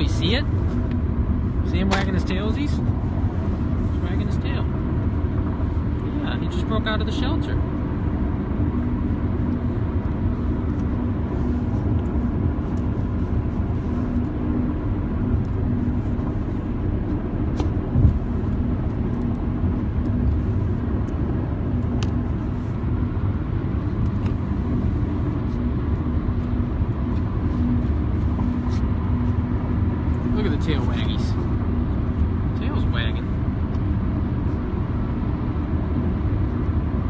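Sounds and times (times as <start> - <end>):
car engine hum and road rumble: 0.0 - 37.0.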